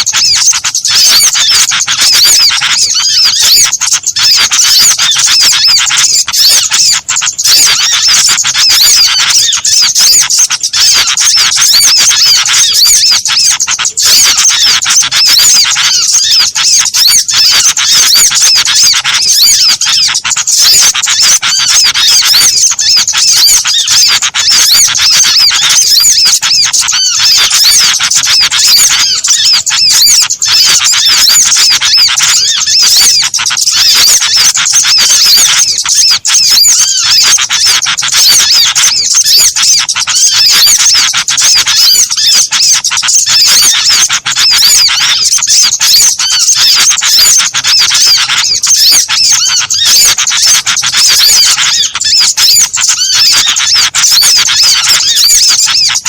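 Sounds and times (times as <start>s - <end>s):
small birds chirping chorus: 0.0s - 56.0s.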